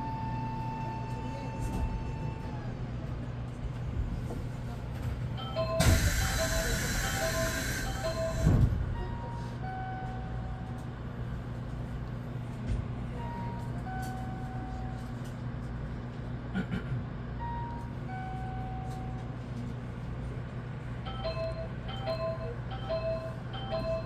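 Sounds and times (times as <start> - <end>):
train electrical hum: 0.0 - 24.0.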